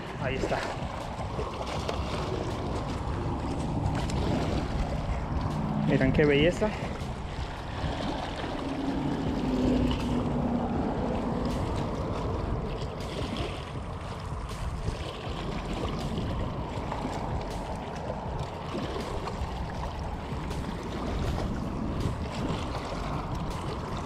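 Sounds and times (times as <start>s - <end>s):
waves lapping against rocks: 0.0s - 24.0s
wind buffeting microphone: 0.0s - 24.0s.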